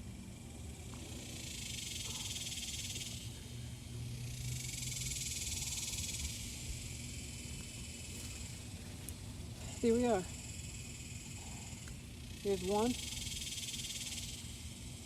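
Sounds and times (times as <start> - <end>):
faint low hum: 0.0 - 15.0
insects trilling: 0.0 - 15.0.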